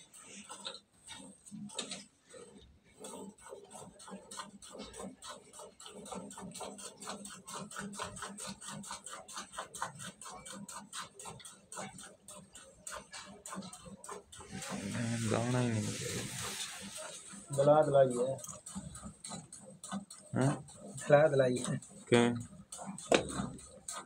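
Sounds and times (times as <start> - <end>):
milk squirting into steel pail: 0.1 - 19.6.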